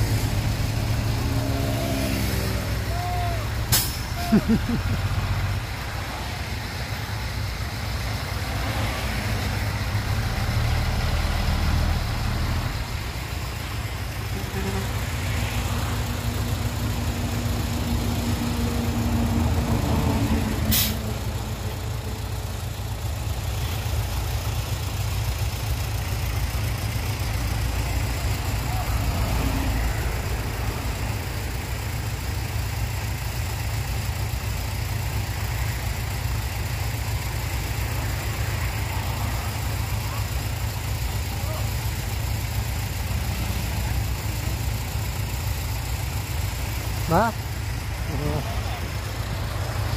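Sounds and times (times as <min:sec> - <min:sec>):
diesel engine rumbling: 0:00.0 - 0:49.9.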